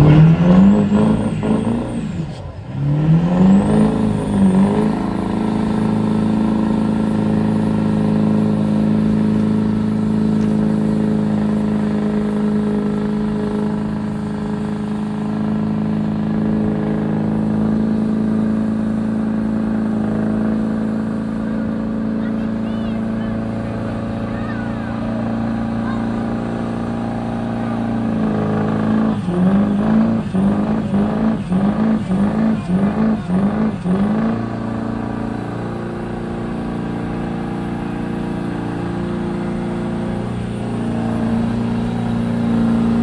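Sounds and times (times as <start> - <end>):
vehicle engine revving: 0.0 - 43.0.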